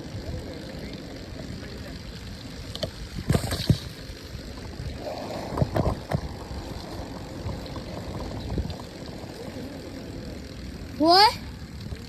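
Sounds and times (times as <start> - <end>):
wind noise on microphone: 0.0 - 10.6
dirt bike engine rumble: 0.0 - 12.0.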